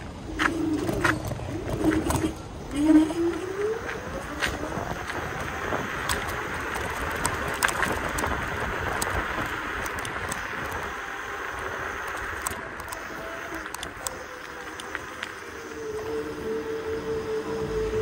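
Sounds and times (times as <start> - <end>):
wind and tyre noise: 0.0 - 18.0
small clicks and rattles: 0.7 - 16.1.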